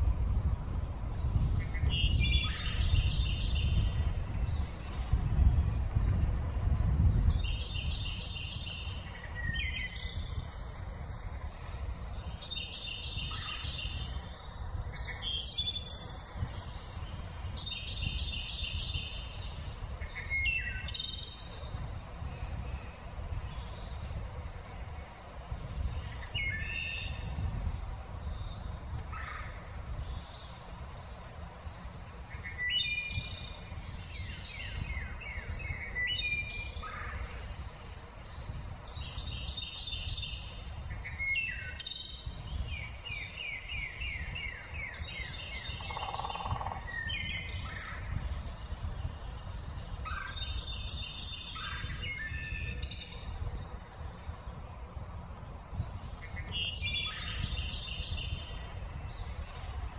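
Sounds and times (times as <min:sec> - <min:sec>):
birds singing and calling: 0:00.0 - 0:14.4, 0:15.0 - 0:59.9.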